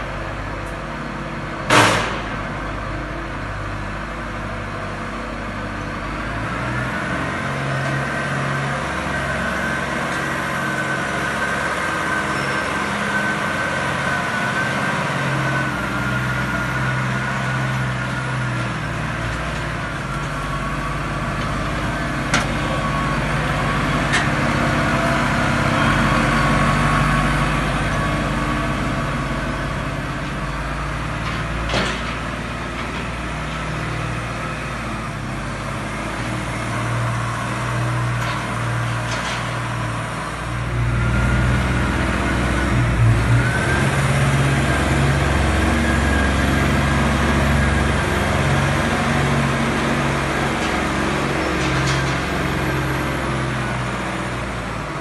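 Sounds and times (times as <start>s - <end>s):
tractor engine working: 0.0s - 55.0s.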